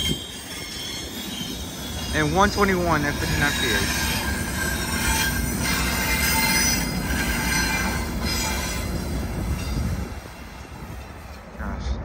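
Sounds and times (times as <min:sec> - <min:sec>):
wheel squeal: 0:00.0 - 0:10.6
train wheels rumbling on track: 0:00.0 - 0:12.0.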